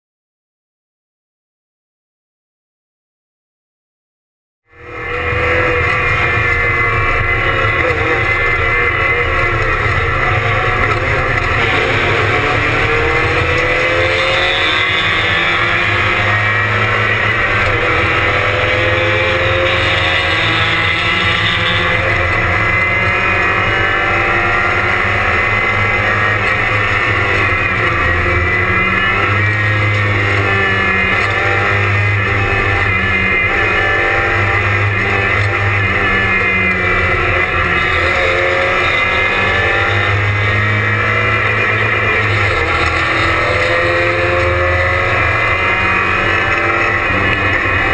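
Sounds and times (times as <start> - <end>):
race car engine accelerating: 4.7 - 47.9.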